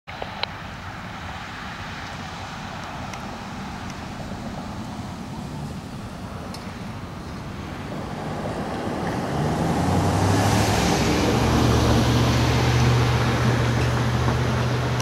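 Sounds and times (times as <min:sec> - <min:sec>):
road traffic: 0:00.1 - 0:15.0.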